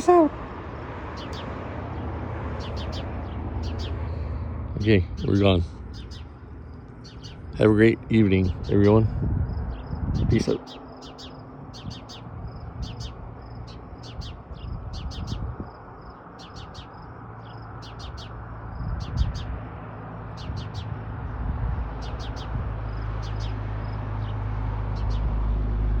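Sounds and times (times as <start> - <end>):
bird chirping scolding calls: 1.1 - 1.6, 2.5 - 19.6, 20.3 - 21.0, 22.0 - 24.4, 25.0 - 25.3.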